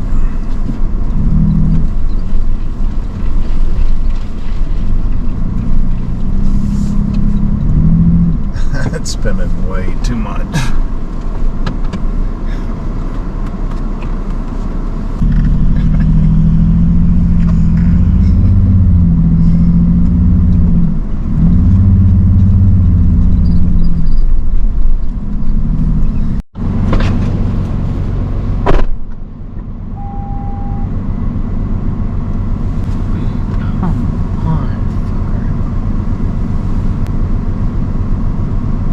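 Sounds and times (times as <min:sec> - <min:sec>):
vehicle engine revving: 0:00.0 - 0:29.0, 0:29.6 - 0:38.9.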